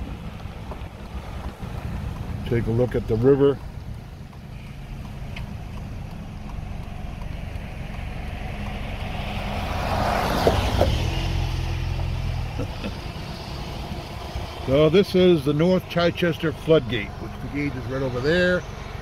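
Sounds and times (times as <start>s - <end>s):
low road rumble: 0.0s - 19.0s
tyres hissing on wet pavement: 0.0s - 19.0s
vehicle engine hum: 0.0s - 19.0s.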